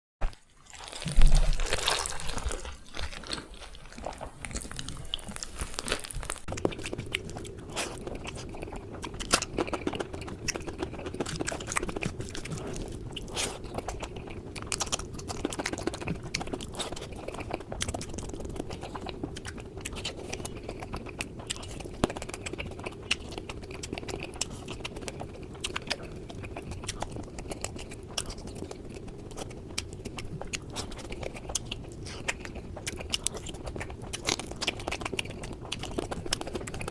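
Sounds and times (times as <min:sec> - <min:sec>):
chewing and crunching food: 0:00.2 - 0:36.9.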